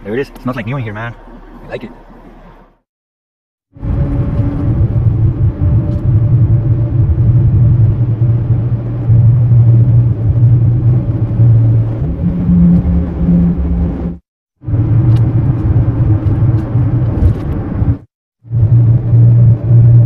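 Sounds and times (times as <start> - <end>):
truck engine and road rumble: 0.0 - 2.8, 3.8 - 20.0.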